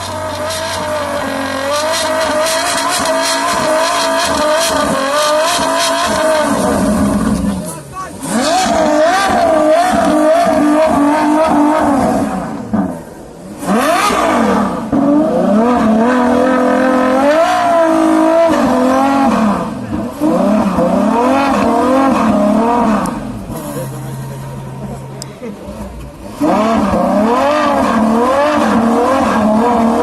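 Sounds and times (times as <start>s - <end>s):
car engine revving hard: 0.0s - 30.0s.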